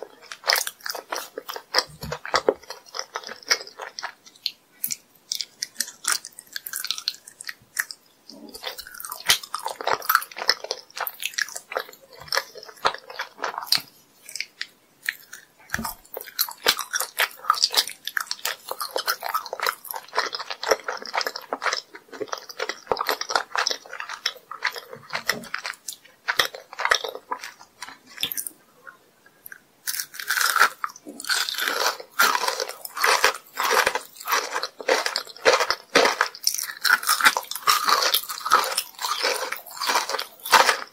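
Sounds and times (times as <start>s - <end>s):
crunching candy bites: 0.0s - 28.6s, 29.3s - 40.9s
soft chewing: 0.0s - 40.9s.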